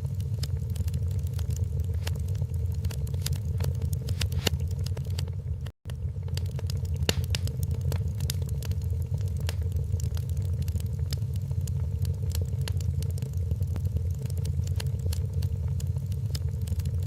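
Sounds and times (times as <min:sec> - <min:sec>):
fireplace wood fire crackling: 0:00.0 - 0:17.0.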